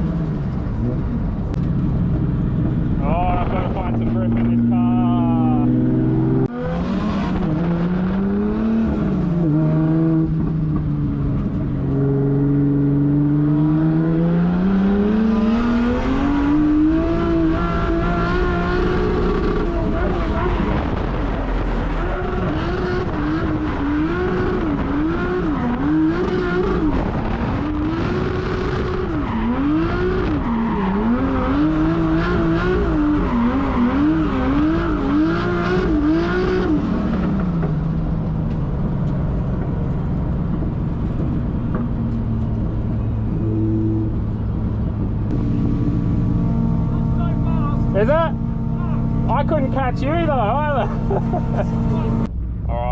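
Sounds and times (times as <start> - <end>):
car engine revving: 0.0 - 52.5.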